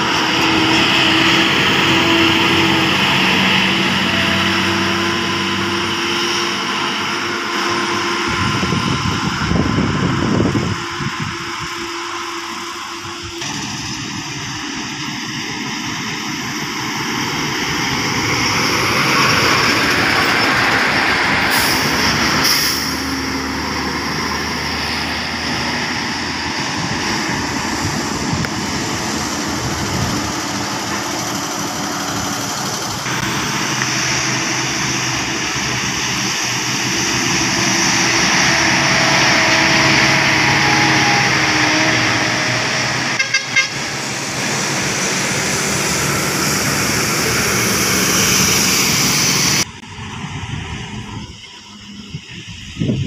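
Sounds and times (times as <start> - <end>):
diesel engines under load: 0.0 - 53.0
tyre and traffic noise: 0.0 - 53.0.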